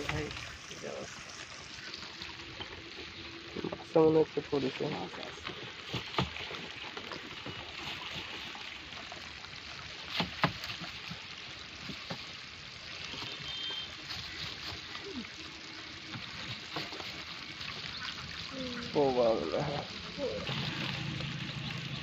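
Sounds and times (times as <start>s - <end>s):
water washing against boat: 0.0s - 22.0s.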